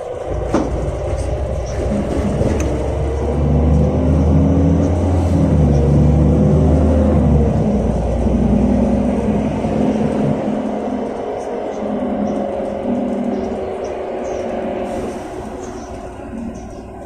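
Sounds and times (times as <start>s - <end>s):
bus engine droning under load: 0.0s - 17.0s.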